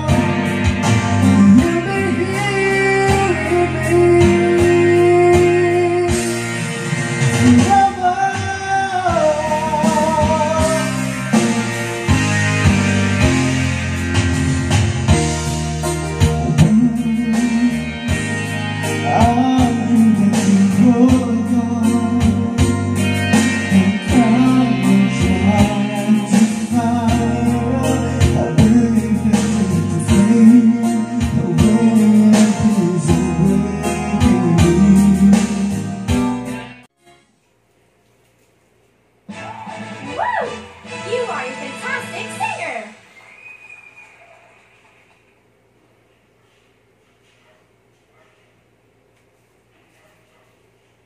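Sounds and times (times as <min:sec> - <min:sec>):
karaoke music track: 0:00.0 - 0:37.3, 0:39.3 - 0:45.5.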